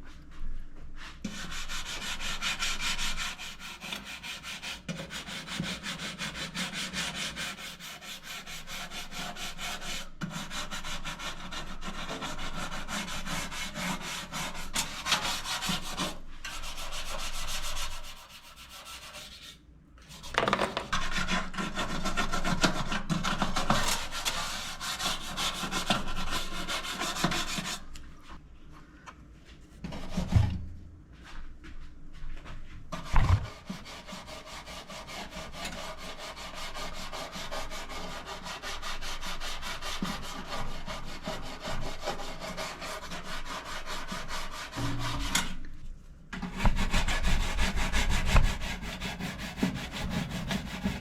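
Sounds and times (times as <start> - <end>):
gritty scrubbing on oven surface: 1.1 - 27.9, 32.9 - 45.6, 46.4 - 51.0.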